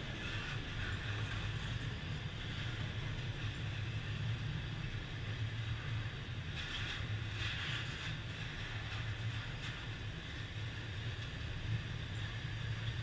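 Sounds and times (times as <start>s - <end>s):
hiss of train wheels: 0.0s - 11.3s
train wheels rumbling on rail: 0.0s - 13.0s.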